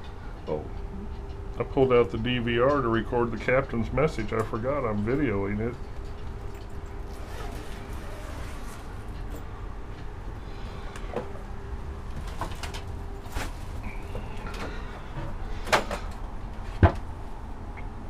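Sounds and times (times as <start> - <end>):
faint steady hum: 0.0 - 18.0
ship engine low rumble: 0.0 - 18.0.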